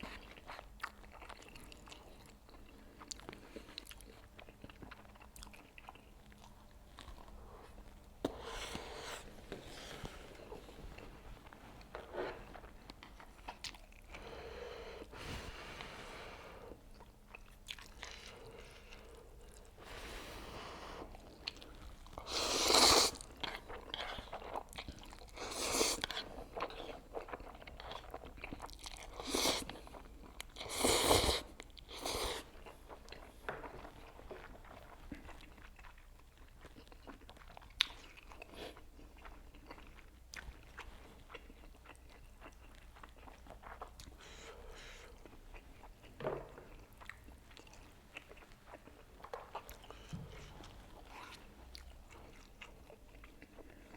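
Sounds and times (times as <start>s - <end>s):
person chewing noodles: 0.0s - 15.2s, 15.8s - 53.9s.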